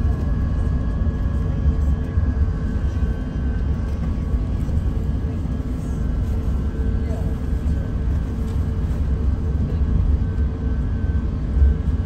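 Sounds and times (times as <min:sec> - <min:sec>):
airplane cabin rumble: 0:00.0 - 0:12.0
faint steady engine tones: 0:00.0 - 0:12.0.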